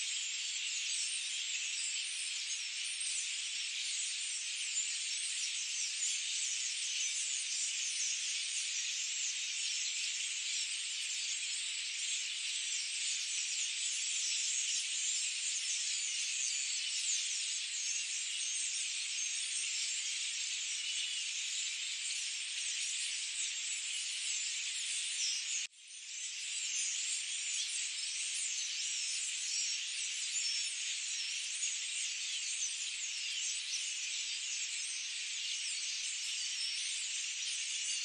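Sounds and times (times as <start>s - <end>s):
chorus of birds chirping: 0.0s - 38.0s.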